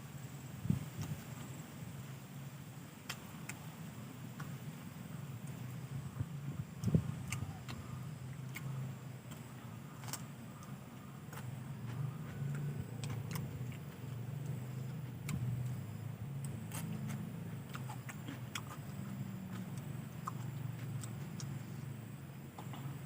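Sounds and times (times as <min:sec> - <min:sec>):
steady low hum: 0:00.0 - 0:23.0
chewing: 0:03.0 - 0:23.0.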